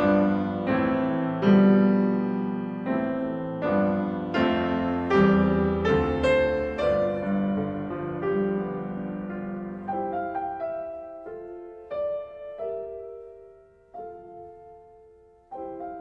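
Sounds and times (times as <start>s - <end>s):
slow gentle solo piano: 0.0s - 16.0s.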